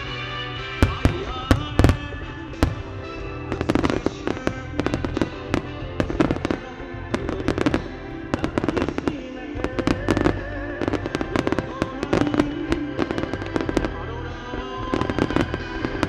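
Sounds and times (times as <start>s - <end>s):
fireworks bursting: 0.0s - 16.0s
music playing: 0.0s - 16.0s.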